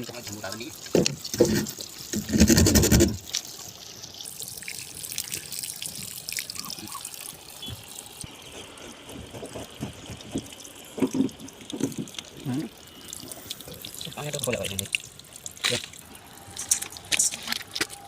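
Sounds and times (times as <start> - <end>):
water trickling and dripping: 0.0 - 18.0.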